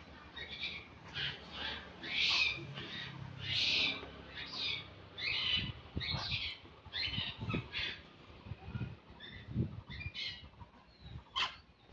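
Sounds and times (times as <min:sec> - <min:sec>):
birds calling in harsh bursts: 0:00.0 - 0:11.9.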